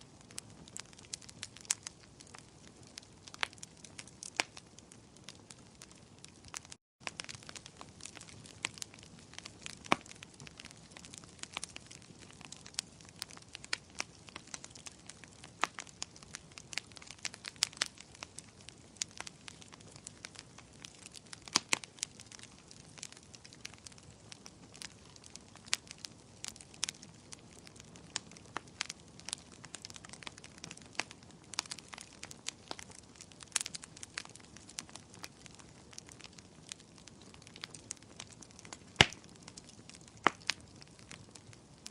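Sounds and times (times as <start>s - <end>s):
wood fire crackling and hissing: 0.0s - 41.9s.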